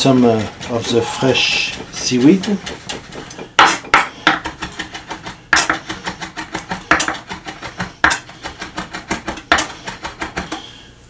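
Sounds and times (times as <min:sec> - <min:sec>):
knife chopping on wooden board: 0:01.6 - 0:10.6.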